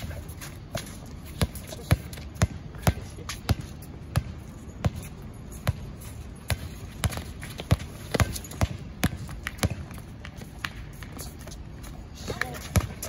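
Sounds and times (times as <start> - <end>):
basketball bouncing on hard court: 1.3 - 11.2, 12.3 - 13.0.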